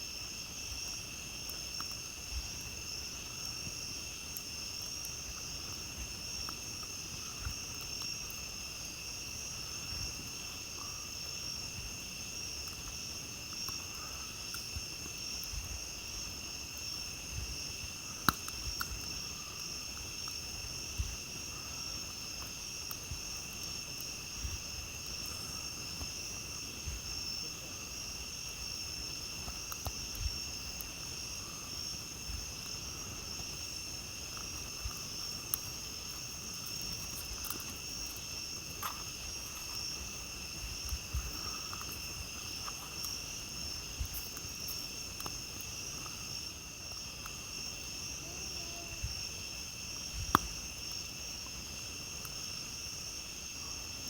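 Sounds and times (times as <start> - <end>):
night insects chorus: 0.0 - 54.0
campfire crackling and popping: 0.1 - 53.0.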